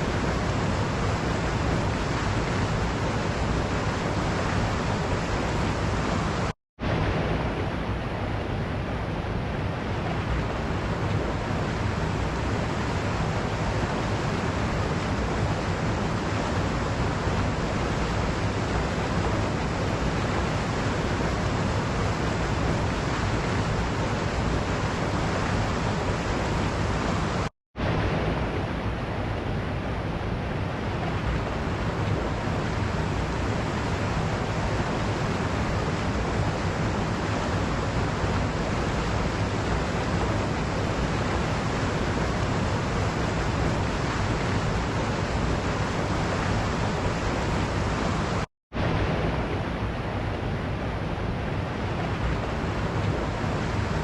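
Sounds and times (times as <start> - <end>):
waterfall rushing: 0.0 - 8.0, 9.9 - 29.1, 30.9 - 54.0.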